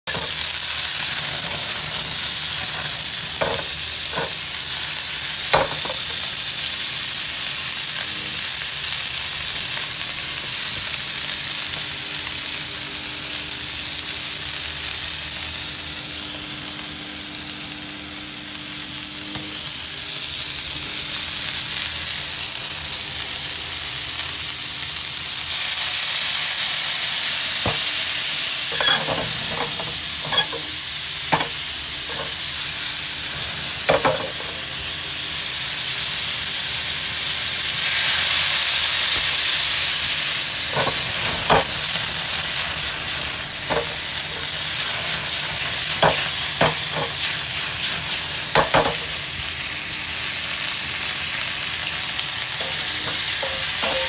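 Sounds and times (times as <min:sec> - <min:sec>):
meat sizzling in hot fat: 0:00.1 - 0:54.0.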